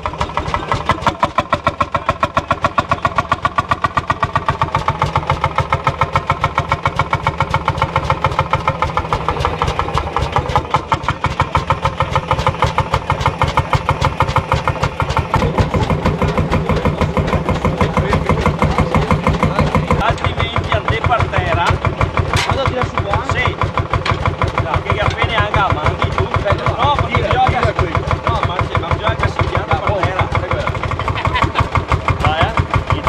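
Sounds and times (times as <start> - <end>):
tractor engine chugging: 0.0 - 33.0.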